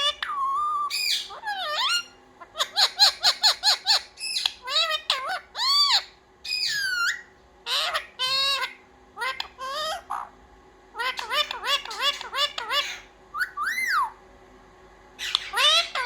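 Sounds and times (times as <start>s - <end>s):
parrot calls rising and falling: 0.0s - 10.3s, 11.0s - 14.2s, 15.2s - 16.0s
parrot chirping: 0.0s - 10.4s, 11.0s - 14.2s, 15.2s - 16.0s.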